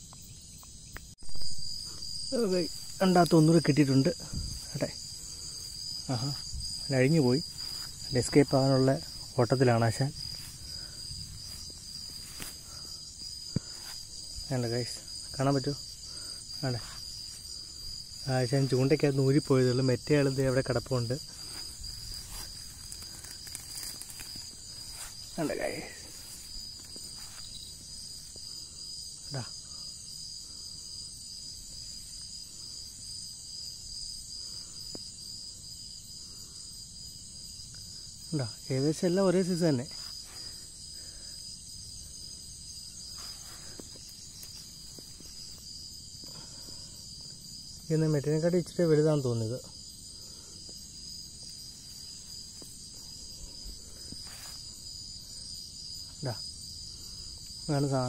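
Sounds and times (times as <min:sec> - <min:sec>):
crickets trilling: 0:00.0 - 0:58.0
high insect song: 0:00.0 - 0:58.0.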